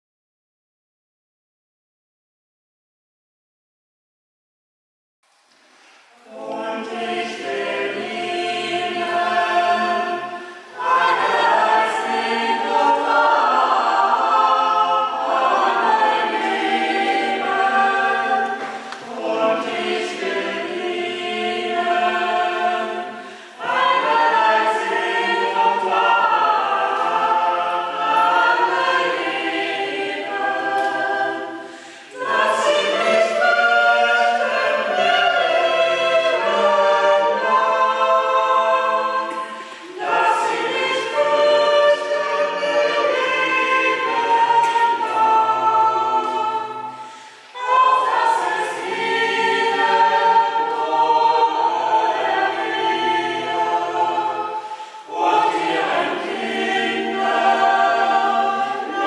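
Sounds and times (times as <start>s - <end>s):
choir singing: 6.0s - 59.0s.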